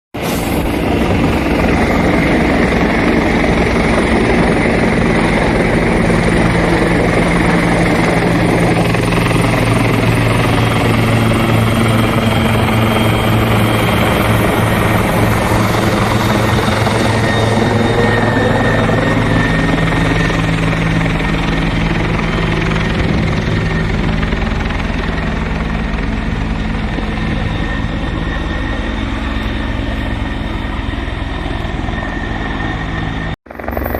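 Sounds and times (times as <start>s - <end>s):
helicopter flying overhead: 0.2s - 33.9s.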